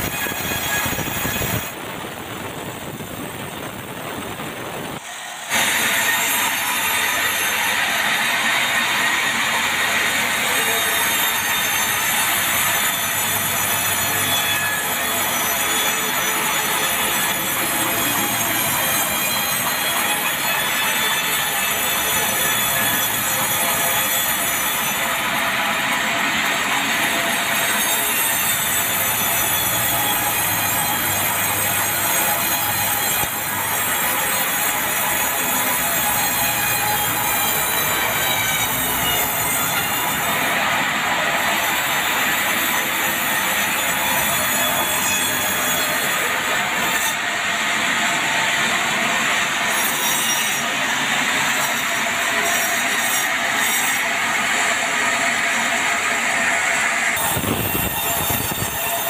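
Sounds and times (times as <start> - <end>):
sawmill saw screeching through log: 0.0 - 1.8, 5.0 - 59.0.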